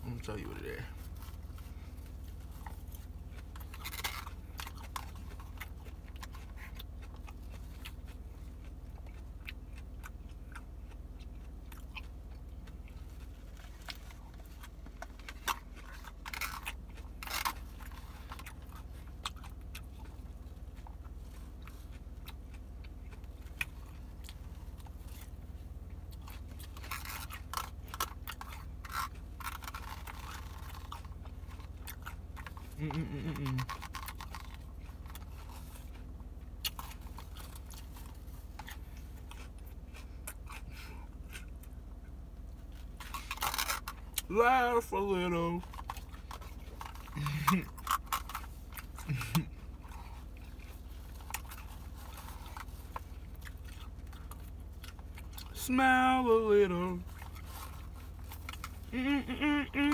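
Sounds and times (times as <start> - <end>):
person chewing crunchy salad: 0.0 - 59.9.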